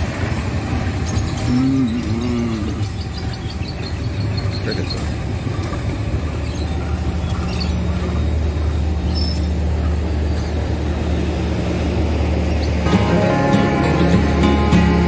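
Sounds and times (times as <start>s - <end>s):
steady low hum: 0.0s - 15.0s
train wheels rumbling on rails: 0.0s - 15.0s.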